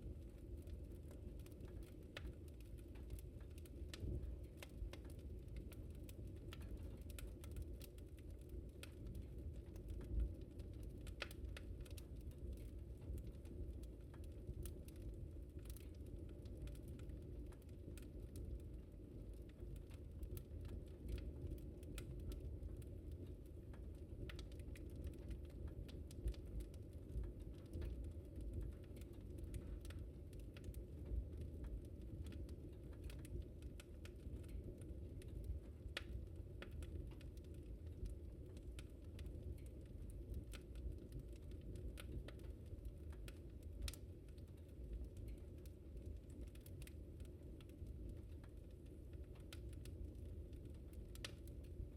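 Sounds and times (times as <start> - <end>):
low rumble of burning fire: 0.0 - 51.9
wood fire crackling and popping: 0.0 - 51.9.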